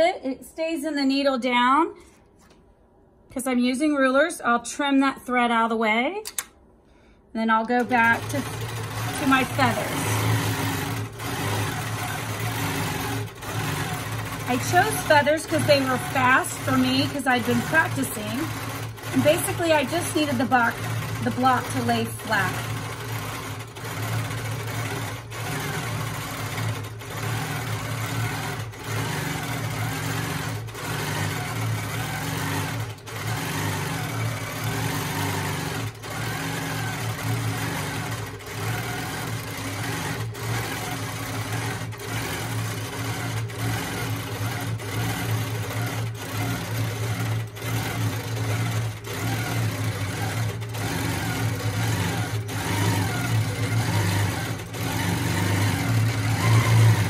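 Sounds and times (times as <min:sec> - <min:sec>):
quilting machine motor hum: 0:07.5 - 0:57.0.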